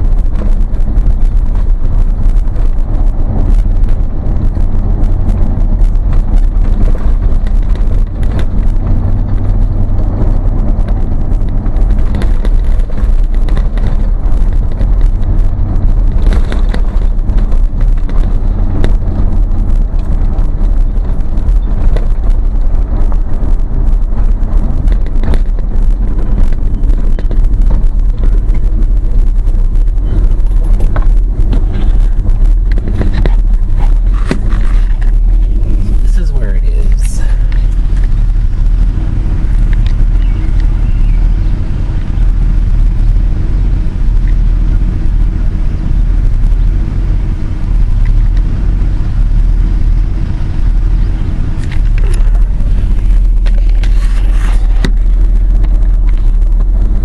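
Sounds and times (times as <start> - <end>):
road noise: 0.0 - 57.0
vehicle engine droning: 0.0 - 57.0.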